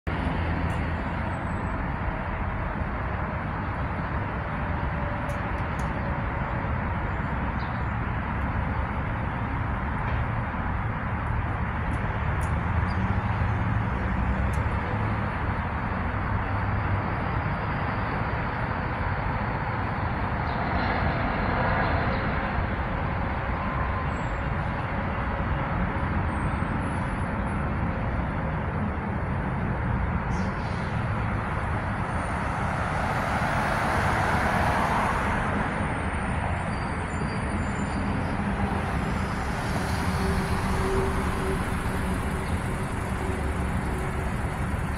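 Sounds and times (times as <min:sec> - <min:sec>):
low rumble of traffic: 0:00.0 - 0:44.9.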